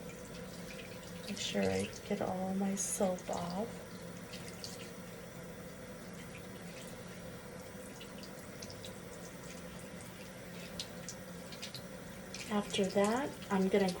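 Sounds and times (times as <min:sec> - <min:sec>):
water splashes and drips: 0:00.0 - 0:05.2, 0:06.0 - 0:14.0
tap water running into a sink: 0:00.0 - 0:14.0.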